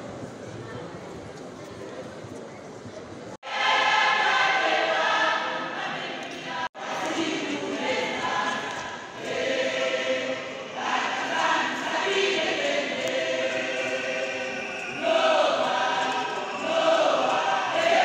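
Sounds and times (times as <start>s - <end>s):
choir singing long notes: 3.4s - 18.0s.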